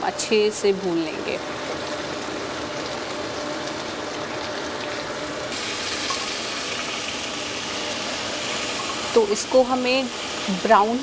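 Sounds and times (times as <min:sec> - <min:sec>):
onions sizzling in hot oil: 0:00.2 - 0:11.0.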